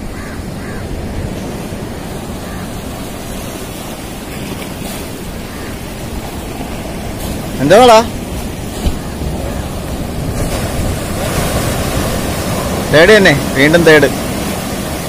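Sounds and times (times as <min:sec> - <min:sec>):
wind rumble on microphone: 0:00.0 - 0:12.9
sea surf washing against rocks: 0:00.0 - 0:15.0.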